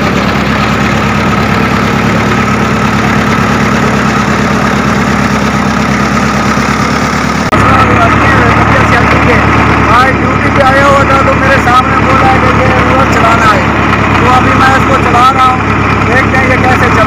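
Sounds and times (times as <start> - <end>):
road roller diesel engine chugging: 0.0 - 17.0.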